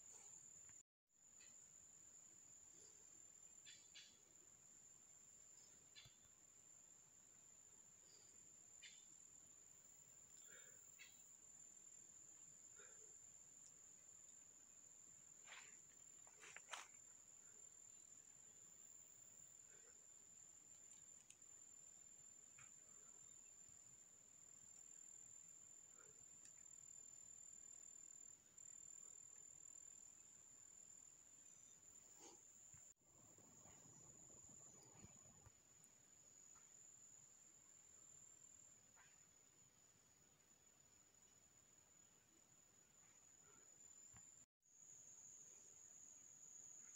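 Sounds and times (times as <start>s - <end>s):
high-pitched insect trill: 0.0s - 39.2s.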